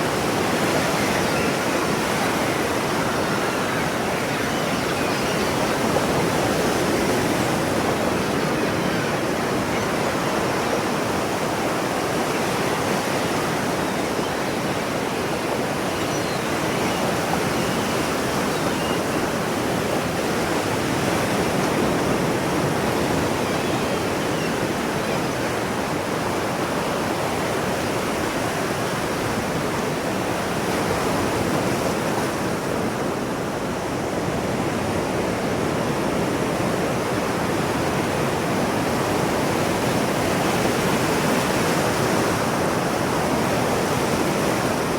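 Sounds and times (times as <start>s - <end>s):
ocean surf washing on shore: 0.0s - 44.9s.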